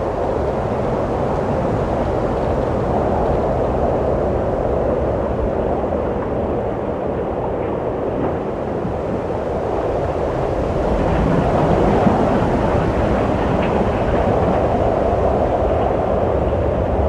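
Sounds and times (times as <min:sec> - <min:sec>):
low rushing wind: 0:00.0 - 0:17.0.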